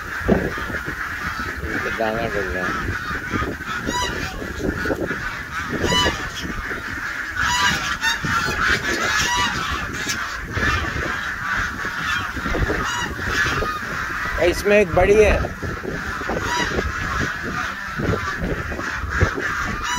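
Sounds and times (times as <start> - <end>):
geese honking: 0.0 - 19.9.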